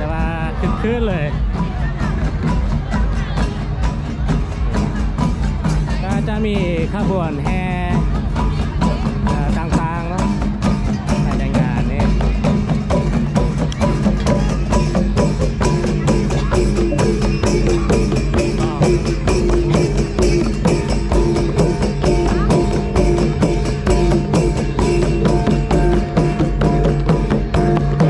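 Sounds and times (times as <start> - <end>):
music with fast percussion beat: 0.0 - 28.0.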